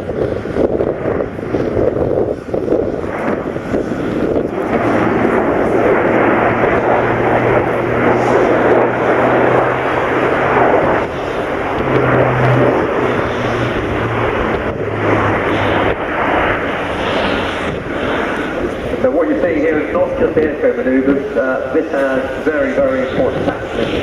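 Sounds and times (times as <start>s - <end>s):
turboprop aircraft flypast: 0.0s - 24.0s.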